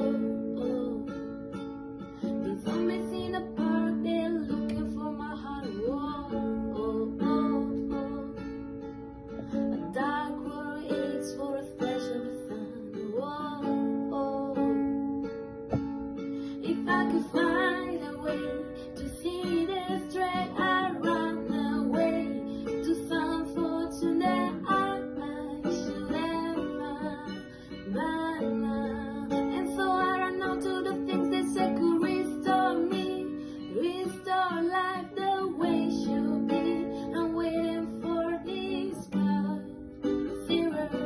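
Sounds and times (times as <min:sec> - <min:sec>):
person singing: 0:00.0 - 0:01.5, 0:02.2 - 0:08.5, 0:09.4 - 0:15.0, 0:16.4 - 0:41.0
acoustic guitar strumming: 0:00.0 - 0:41.0.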